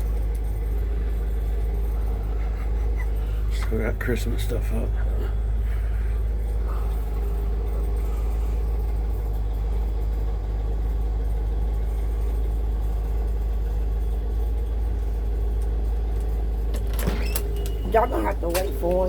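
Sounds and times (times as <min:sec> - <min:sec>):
faint steady hum: 0:00.0 - 0:19.0
truck engine idling: 0:00.0 - 0:19.0.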